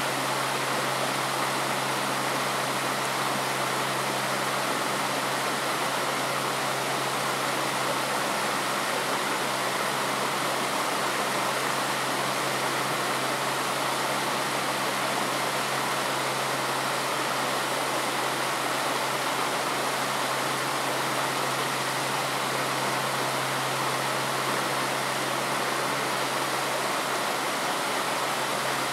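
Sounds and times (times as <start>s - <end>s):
stream water flowing: 0.0s - 28.9s.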